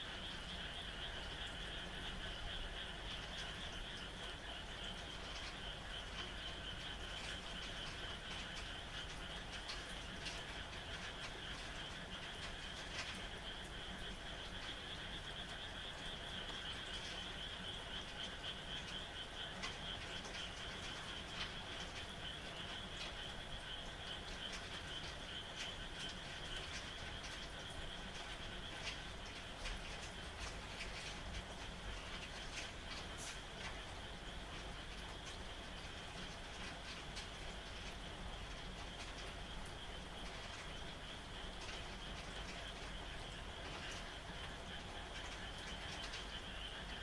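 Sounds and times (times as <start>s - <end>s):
frogs trilling: 0.0s - 47.0s
rain falling: 0.0s - 47.0s.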